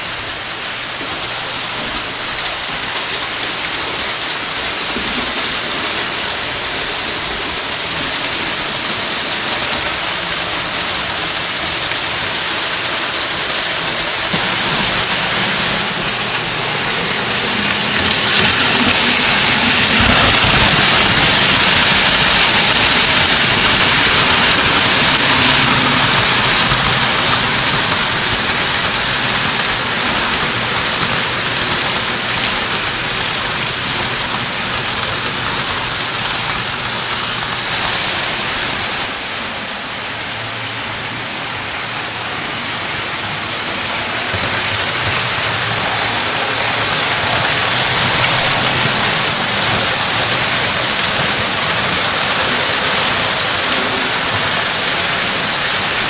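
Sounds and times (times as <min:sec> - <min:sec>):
model train wheels rattling on track: 0:00.0 - 0:56.0.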